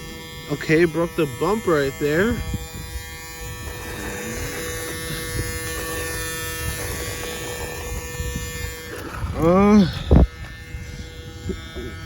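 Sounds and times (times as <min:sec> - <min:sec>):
electric buzz: 0:00.0 - 0:11.9.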